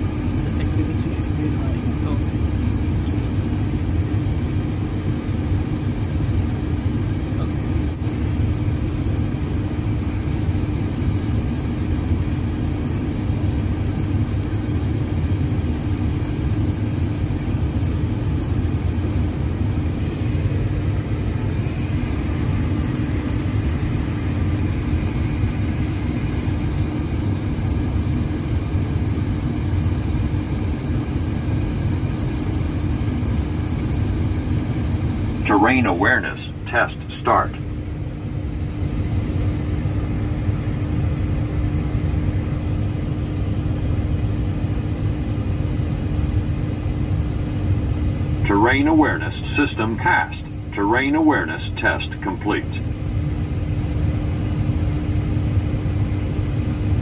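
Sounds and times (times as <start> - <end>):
cockpit machinery rumble and hum: 0.0 - 57.0.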